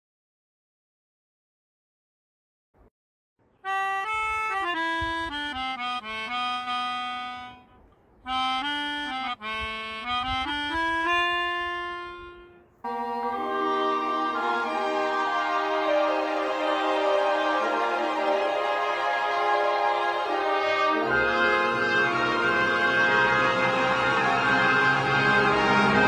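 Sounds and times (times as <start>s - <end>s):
musical accompaniment: 3.6s - 26.0s
reedy wind instrument melody: 3.6s - 26.0s.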